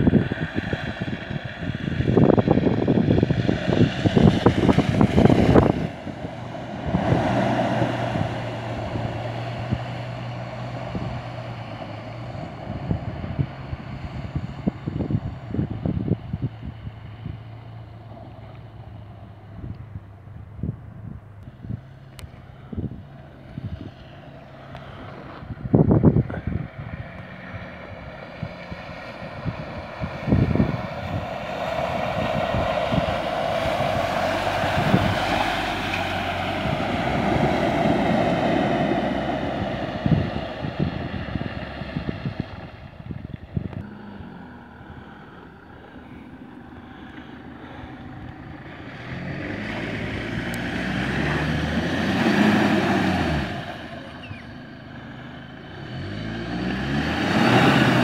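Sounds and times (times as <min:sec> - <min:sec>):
car engine labouring and revving: 0:00.0 - 0:58.0.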